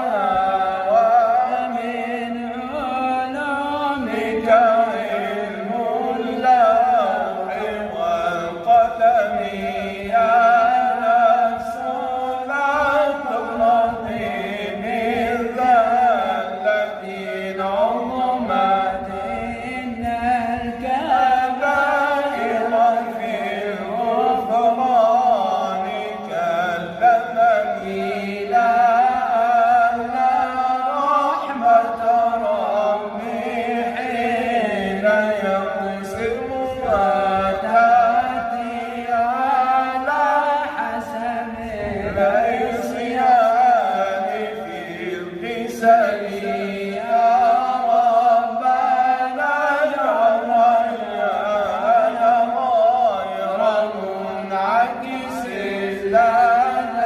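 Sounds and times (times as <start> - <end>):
man chanting unaccompanied: 0.0 - 57.0.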